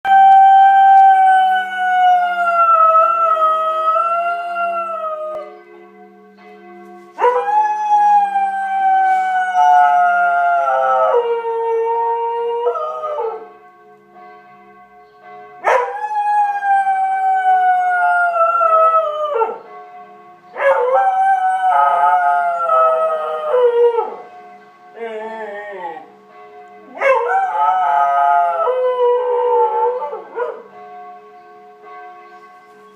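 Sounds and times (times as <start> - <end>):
church bells ringing: 0.1 - 32.9.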